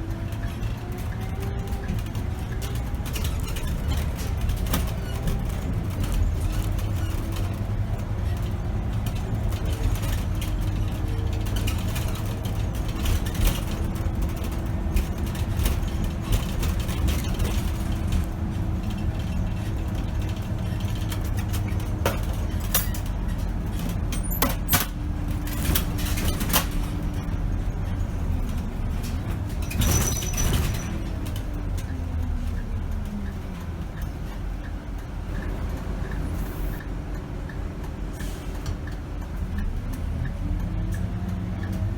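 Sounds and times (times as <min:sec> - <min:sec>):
bus engine rumble: 0:00.0 - 0:41.9
rattles and knocks: 0:00.1 - 0:36.9.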